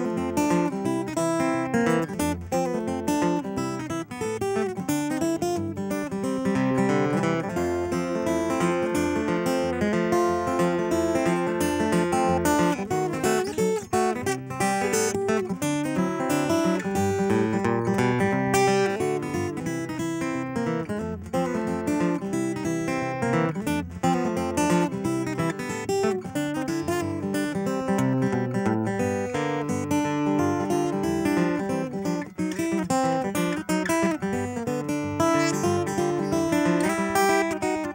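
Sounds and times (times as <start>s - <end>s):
fingerstyle acoustic guitar: 0.0s - 37.9s.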